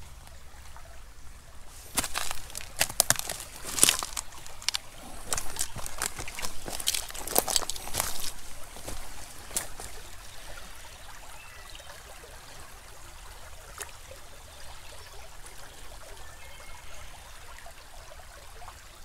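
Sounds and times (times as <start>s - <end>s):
creek trickling over gravel: 0.0s - 19.0s.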